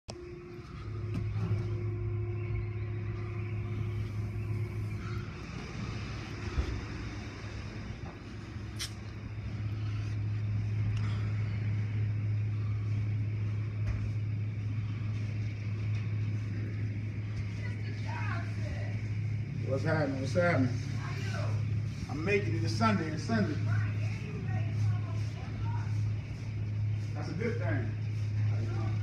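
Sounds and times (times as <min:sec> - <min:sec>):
steady low hum: 0:00.1 - 0:29.0.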